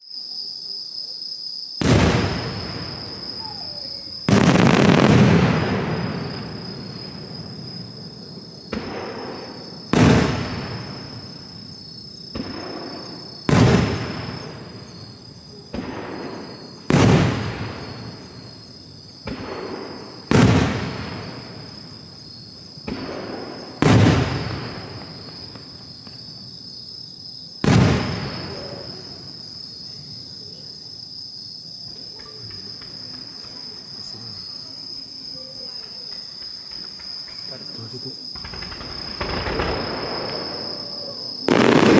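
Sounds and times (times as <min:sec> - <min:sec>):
insect trill: 0:00.0 - 0:41.9
fireworks booming: 0:01.8 - 0:26.8, 0:27.6 - 0:30.5, 0:31.8 - 0:41.9.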